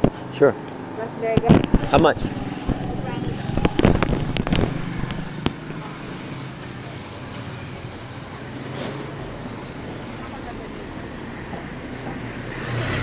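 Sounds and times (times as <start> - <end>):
car driving on road: 0.0 - 13.0.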